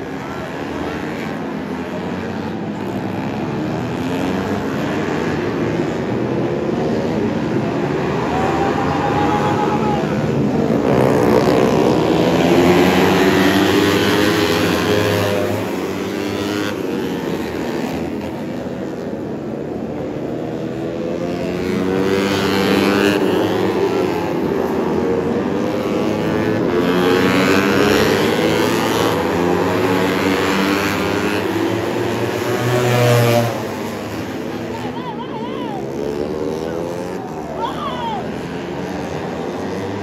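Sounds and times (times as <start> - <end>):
motorcycles revving past: 0.0 - 40.0.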